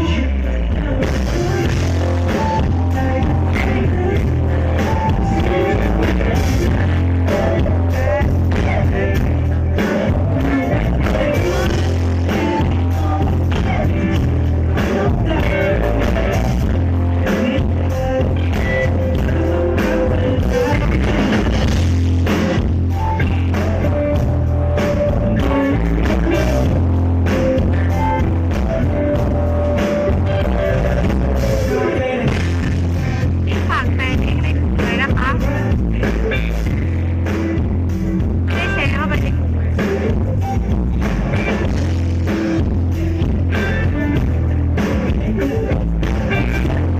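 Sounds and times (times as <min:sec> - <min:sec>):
heavy bass: 0:00.0 - 0:46.9
person singing: 0:00.0 - 0:46.9
rock band playing: 0:00.0 - 0:46.9.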